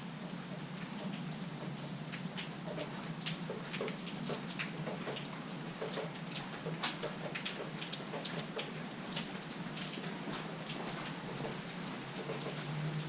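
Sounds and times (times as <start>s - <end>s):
rain hiss: 0.0s - 13.0s
raindrops ticking on hard surface: 0.2s - 13.0s.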